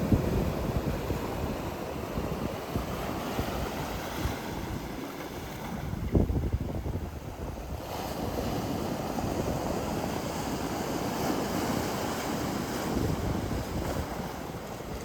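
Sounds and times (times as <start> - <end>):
sea waves washing ashore: 0.0 - 15.0
wind rumble on microphone: 0.0 - 15.0.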